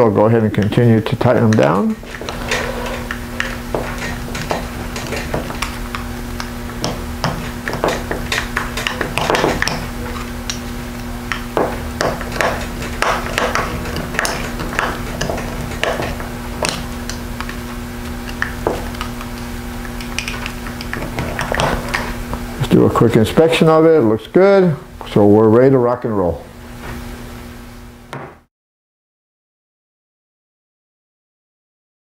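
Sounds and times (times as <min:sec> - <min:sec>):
steady low hum: 0:00.0 - 0:28.5.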